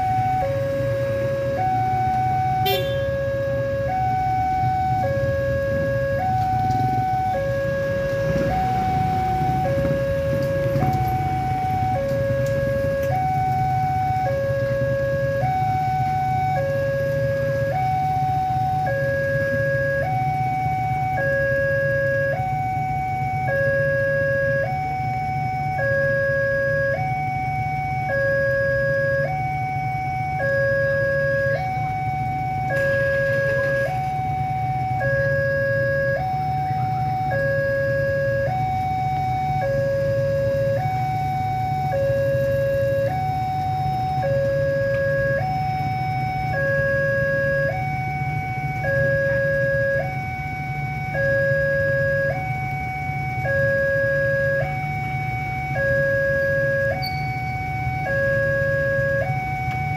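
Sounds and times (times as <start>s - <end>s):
two-tone level crossing alarm: 0.0s - 59.9s.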